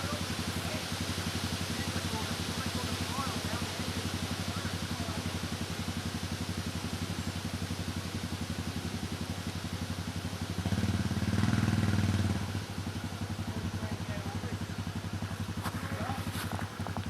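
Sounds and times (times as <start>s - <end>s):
atv engine idling and revving: 0.0s - 17.0s.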